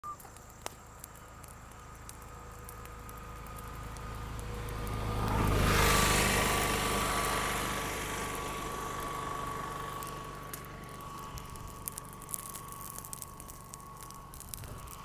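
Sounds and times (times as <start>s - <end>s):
small fire crackling: 0.0s - 15.0s
vehicle passing: 2.4s - 15.0s.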